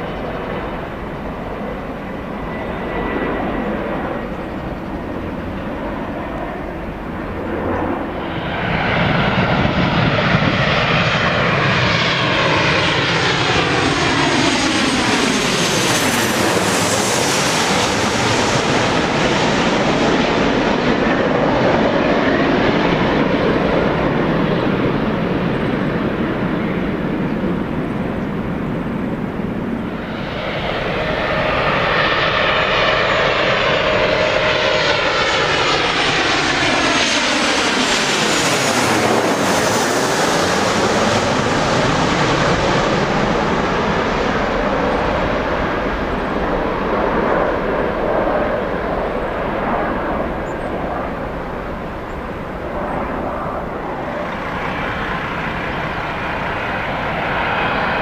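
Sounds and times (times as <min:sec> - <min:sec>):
jet airliner passing: 0:00.0 - 0:58.0.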